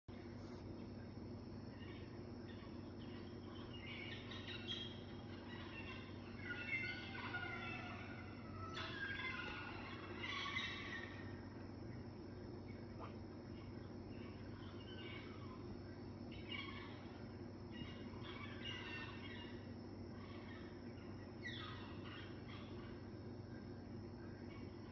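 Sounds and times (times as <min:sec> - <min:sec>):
birds chirping: 0:00.1 - 0:24.9
faint steady hum: 0:00.1 - 0:24.9.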